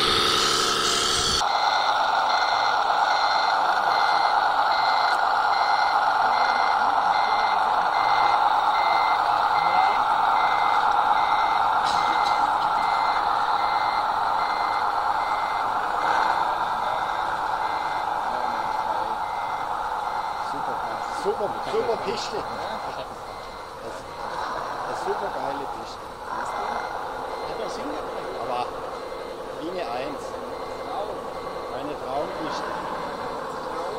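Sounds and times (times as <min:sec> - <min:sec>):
reversing beeper: 0:00.0 - 0:33.9
toy truck drive running: 0:00.0 - 0:33.9.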